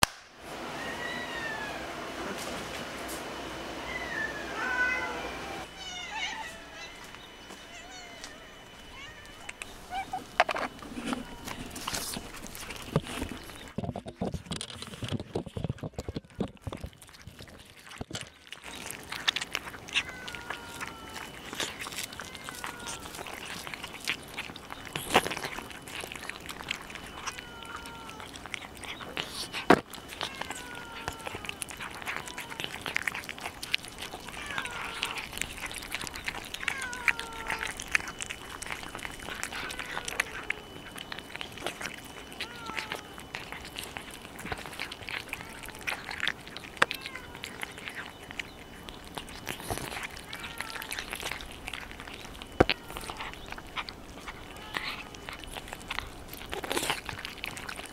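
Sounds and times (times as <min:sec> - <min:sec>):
cats chewing and lapping: 0:00.0 - 0:57.9.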